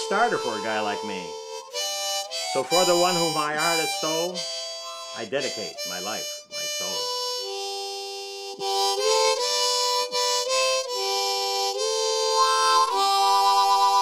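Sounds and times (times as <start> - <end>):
harmonica playing slow tune: 0.0 - 14.0.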